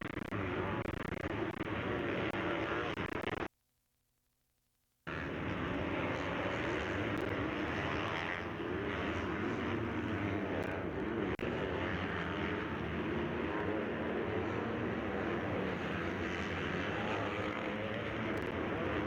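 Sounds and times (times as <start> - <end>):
motocross bike engines running: 0.3 - 3.1, 5.1 - 19.0.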